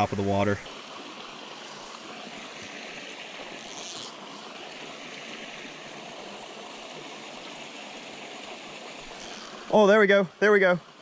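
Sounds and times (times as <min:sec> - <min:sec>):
waterfall spilling into a pool: 0:00.0 - 0:11.0.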